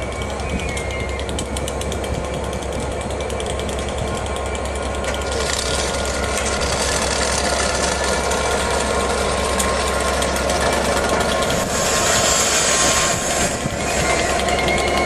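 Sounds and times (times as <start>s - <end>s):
diesel locomotive running: 0.0s - 15.0s
train rattling along track: 0.0s - 15.0s.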